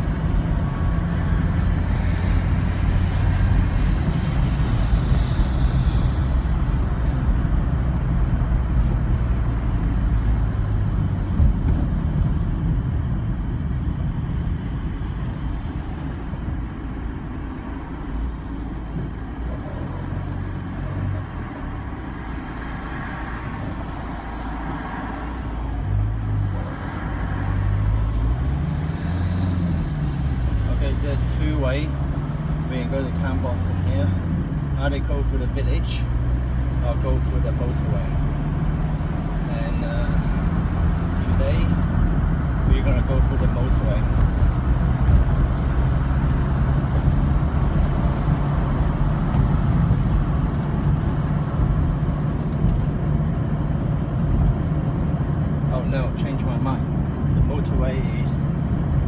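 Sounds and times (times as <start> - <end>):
car engine from inside cabin: 0.0 - 59.0
road noise: 0.0 - 59.0.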